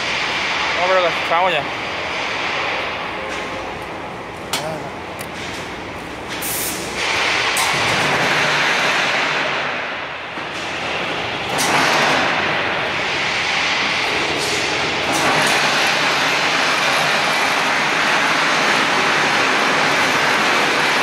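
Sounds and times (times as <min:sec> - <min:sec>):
machine running loudly: 0:00.0 - 0:21.0.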